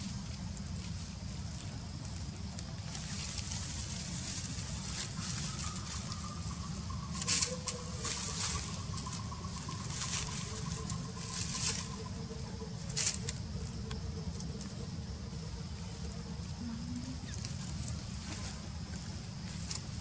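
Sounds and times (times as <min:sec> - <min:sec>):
dry grass and leaves rustling: 0:00.0 - 0:20.0
steady low rumble: 0:00.0 - 0:20.0.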